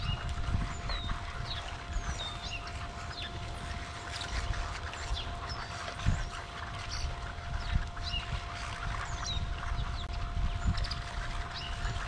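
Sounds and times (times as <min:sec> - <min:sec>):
faint steady hum: 0:00.0 - 0:12.0
flock of birds chirping and whistling: 0:00.0 - 0:12.0.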